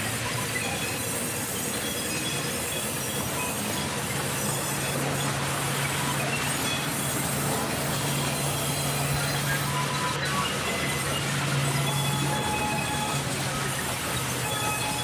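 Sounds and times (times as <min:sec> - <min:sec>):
band saw screeching through wood: 0:00.4 - 0:15.0.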